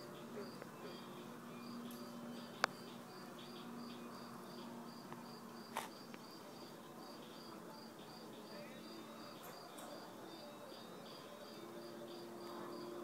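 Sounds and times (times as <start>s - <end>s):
crickets chirping: 0.1s - 13.0s.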